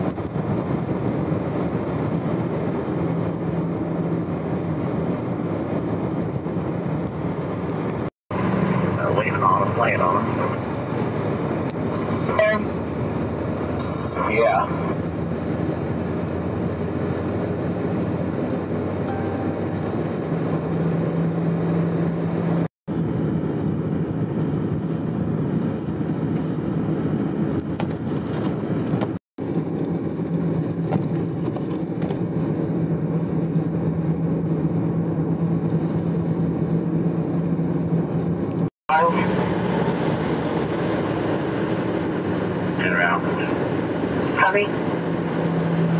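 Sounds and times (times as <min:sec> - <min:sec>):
vehicle engine and road hum: 0:00.0 - 0:45.9
wind and tyre noise: 0:00.0 - 0:45.9.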